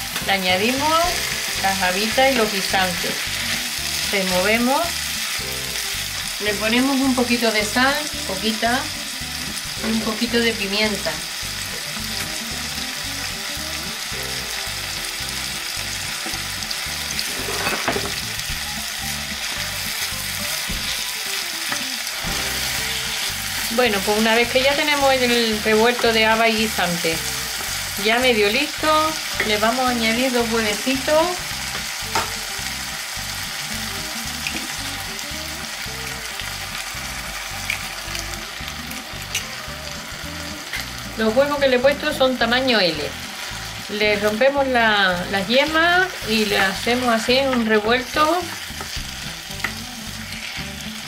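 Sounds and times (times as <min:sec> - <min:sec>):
vegetables sizzling in oil: 0:00.0 - 0:51.0.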